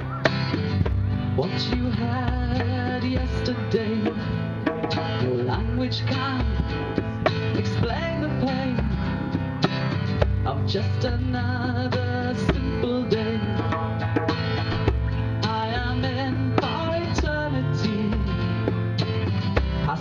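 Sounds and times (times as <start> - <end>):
acoustic guitar strumming: 0.0 - 20.0
low bass notes: 0.0 - 20.0.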